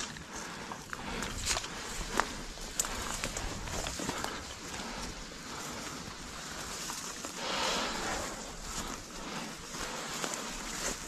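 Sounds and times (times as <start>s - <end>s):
footsteps in undergrowth: 0.0s - 11.0s
weeds rustling against legs: 0.0s - 11.0s.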